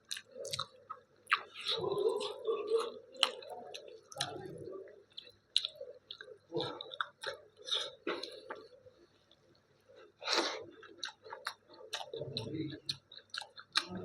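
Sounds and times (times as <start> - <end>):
mouth chewing food: 0.0 - 14.0.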